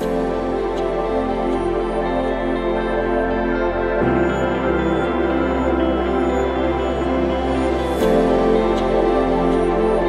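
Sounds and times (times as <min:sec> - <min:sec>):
background music with sustained chords: 0:00.0 - 0:10.0.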